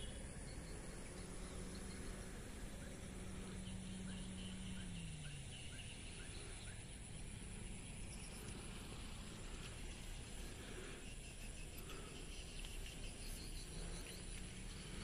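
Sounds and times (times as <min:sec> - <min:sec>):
birds chirping: 0:00.0 - 0:15.0
low steady hum: 0:00.0 - 0:15.0.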